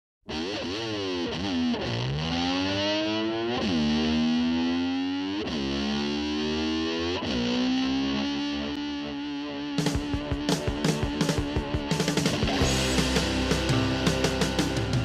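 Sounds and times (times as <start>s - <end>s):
distorted electric slide guitar: 0.2s - 15.0s.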